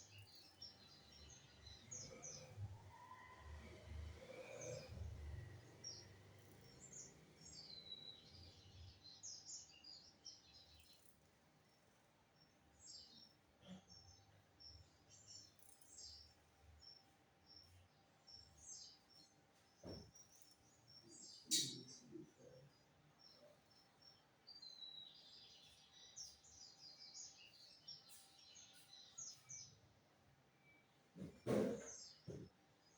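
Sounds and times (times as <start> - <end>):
bird chirping: 0.0 - 29.9.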